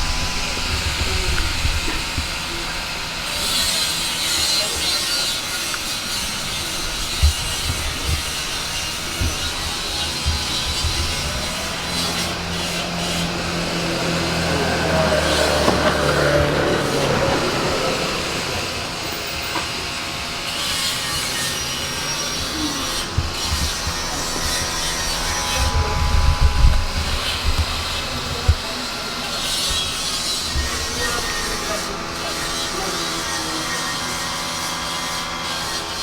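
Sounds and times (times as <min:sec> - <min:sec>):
machinery humming: 0:00.0 - 0:36.0
metal cutting and rubbing: 0:00.0 - 0:36.0.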